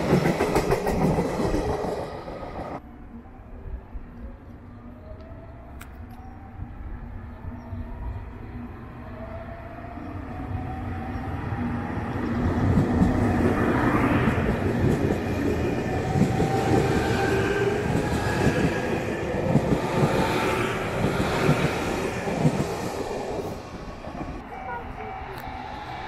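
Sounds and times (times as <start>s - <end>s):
train rumbling on rails: 0.0s - 2.9s, 4.8s - 26.0s.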